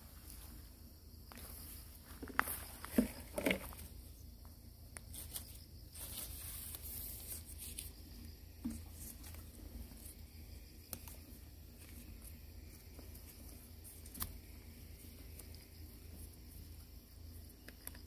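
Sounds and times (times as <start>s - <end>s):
rustling through grass and shrubs: 0.0s - 18.0s.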